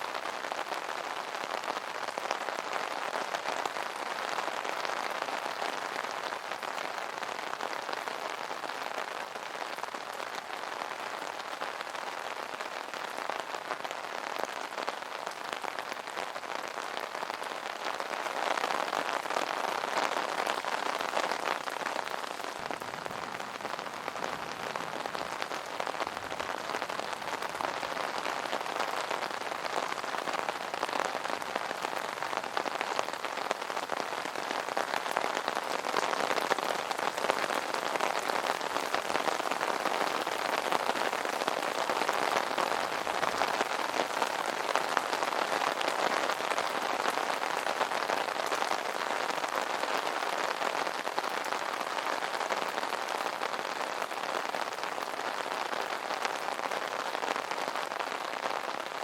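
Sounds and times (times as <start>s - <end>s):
rain pattering on an umbrella: 0.0s - 59.0s.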